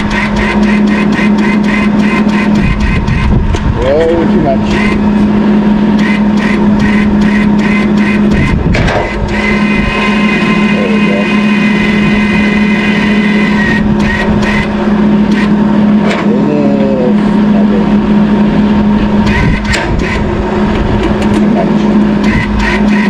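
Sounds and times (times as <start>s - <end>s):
loud engine-like drone: 0.0s - 23.0s.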